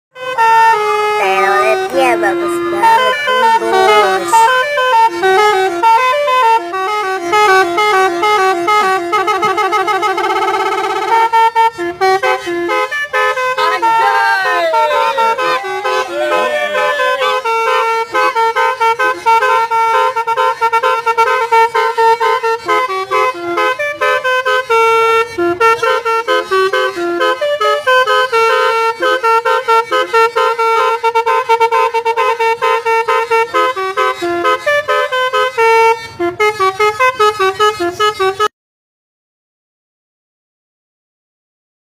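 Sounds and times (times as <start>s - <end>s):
melodica playing horn tune: 0.2s - 38.5s.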